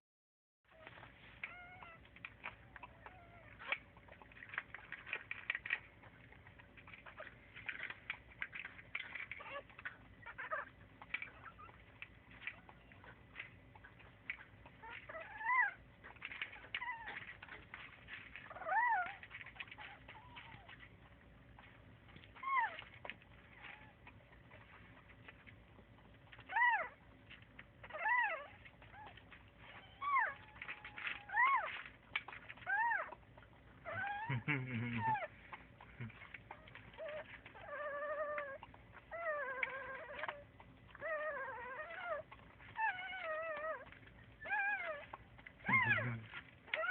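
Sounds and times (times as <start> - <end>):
scratchy clicks and rustles: 0.7 - 34.3, 34.9 - 46.9
small animals squeaking: 0.7 - 46.9.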